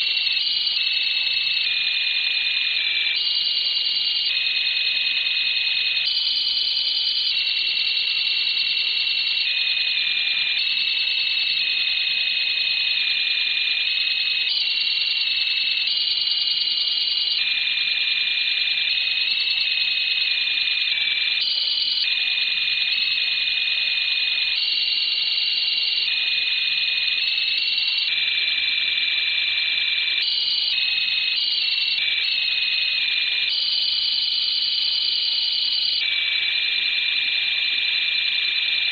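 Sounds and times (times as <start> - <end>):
high steady data tones: 0.0 - 36.1.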